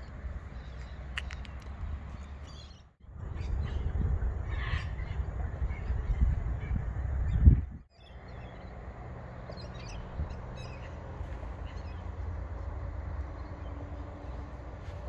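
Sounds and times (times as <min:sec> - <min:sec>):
bird calls: 0:00.0 - 0:08.8, 0:09.4 - 0:12.7
low outdoor rumble: 0:00.0 - 0:15.0.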